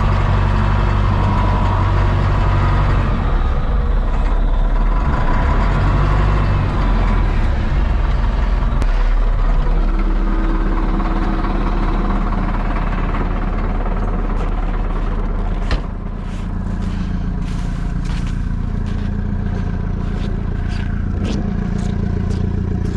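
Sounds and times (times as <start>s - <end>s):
vehicle engine running at low revs: 0.0s - 22.9s.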